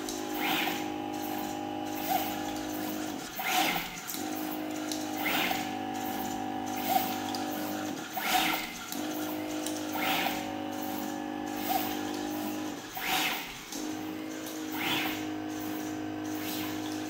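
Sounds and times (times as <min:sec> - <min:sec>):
machine motor hum: 0:00.0 - 0:17.0.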